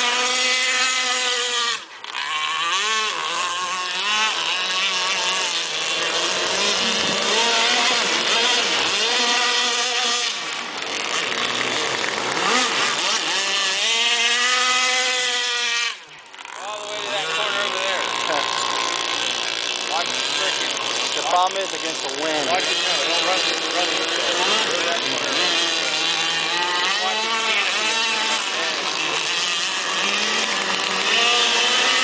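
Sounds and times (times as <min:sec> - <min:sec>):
model boat engines buzzing: 0:00.0 - 0:32.0.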